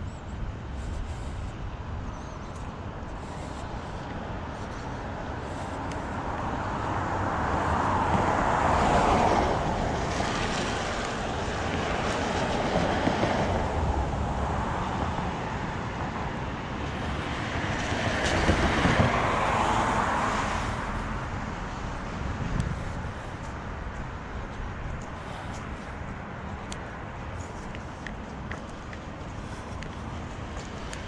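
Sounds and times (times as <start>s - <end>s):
vehicles passing by: 0.0s - 31.0s.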